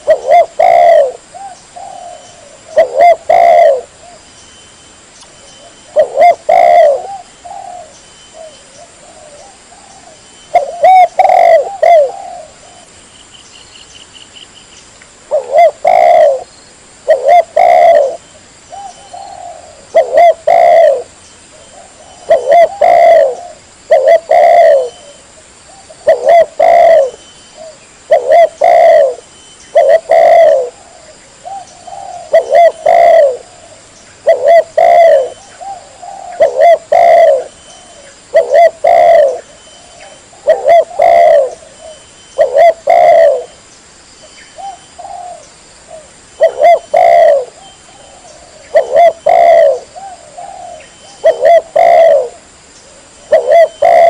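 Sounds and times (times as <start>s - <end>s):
dove cooing: 0.0s - 4.2s, 5.6s - 12.9s, 15.3s - 43.6s, 44.5s - 54.0s.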